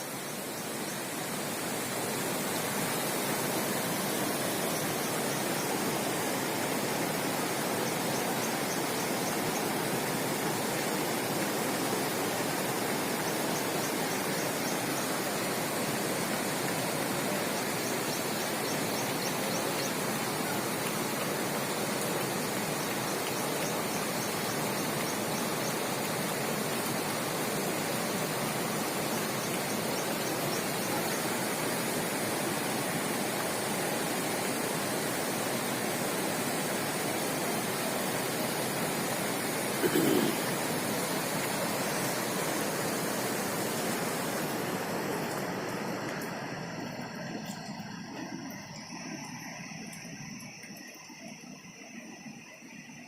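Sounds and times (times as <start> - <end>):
rushing floodwater: 0.0 - 53.0.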